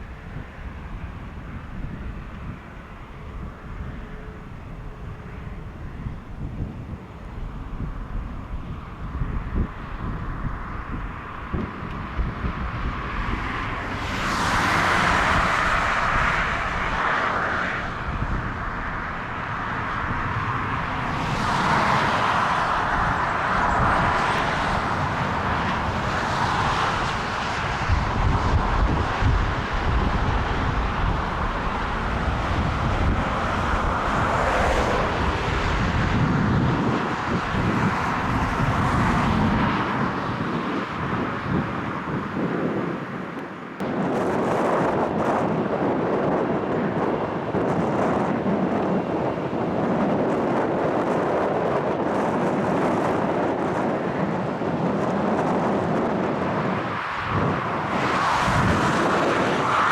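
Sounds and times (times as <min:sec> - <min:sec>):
jet engine noise: 0:00.0 - 0:59.9
wind buffeting microphone: 0:00.0 - 0:59.9.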